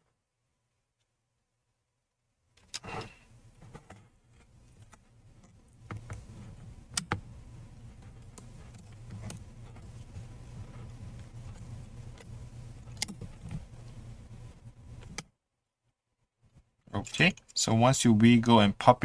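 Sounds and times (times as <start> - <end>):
low steady hum: 0.1 - 19.0.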